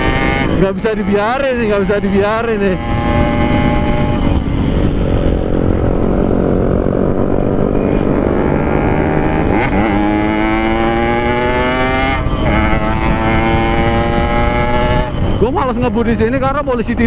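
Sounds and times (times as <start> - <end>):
two-stroke motorcycle accelerating: 0.0 - 17.0.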